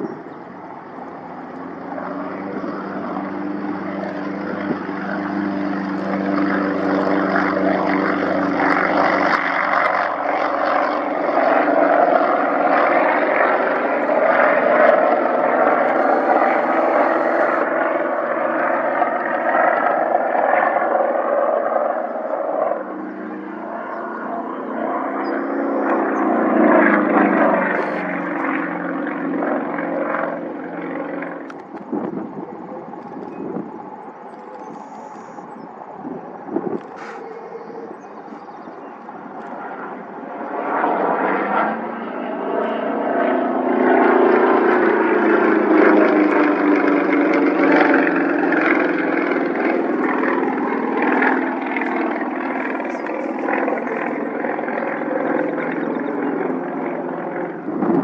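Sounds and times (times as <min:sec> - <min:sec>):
plane flying past: 0:00.0 - 0:58.0.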